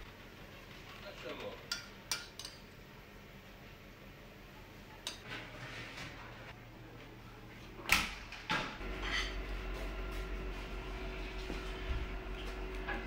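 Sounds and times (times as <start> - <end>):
oven humming: 0.0 - 13.0.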